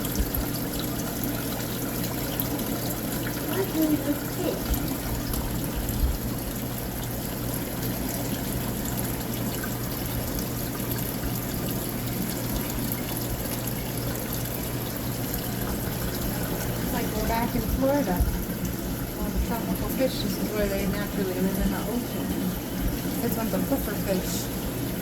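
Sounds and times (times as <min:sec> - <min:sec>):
water trickling from aquarium filters: 0:00.0 - 0:25.0.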